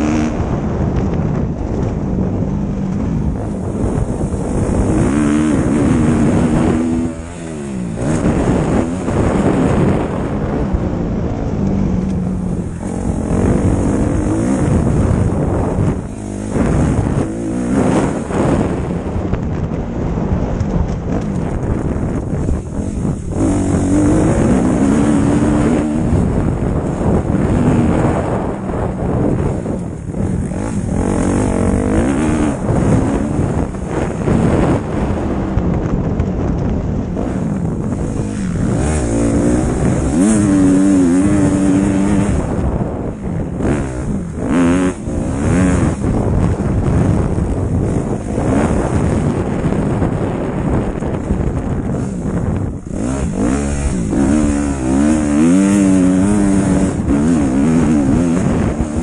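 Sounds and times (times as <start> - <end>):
motorbike engine revving: 0.0 - 59.0
wind buffeting microphone: 0.0 - 59.0.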